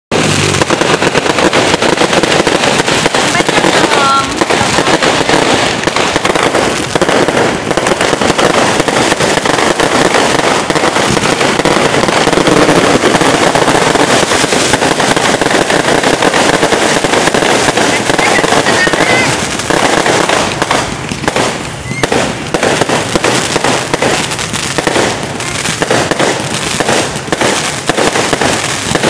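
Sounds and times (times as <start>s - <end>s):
fireworks crackling: 0.1s - 29.0s.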